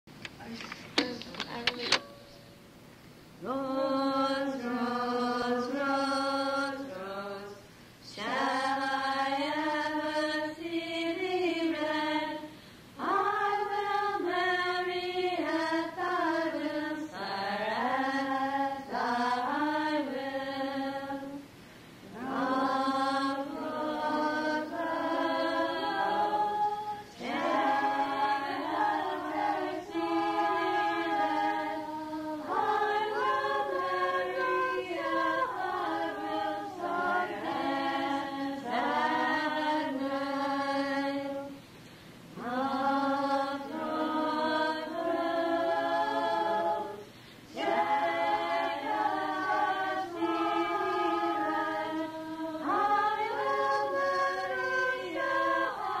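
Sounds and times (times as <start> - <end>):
group of voices singing: 3.4 - 41.6, 42.4 - 56.0.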